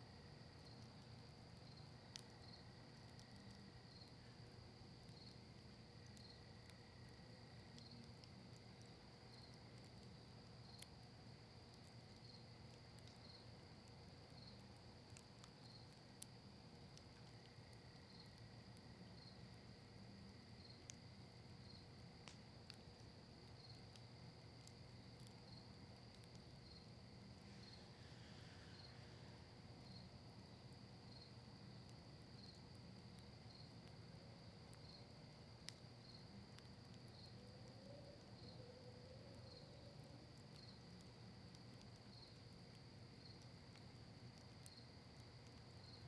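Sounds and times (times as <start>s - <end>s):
campfire crackling: 0.0s - 46.0s
fire popping: 0.0s - 46.0s
insect chirping: 0.0s - 46.0s.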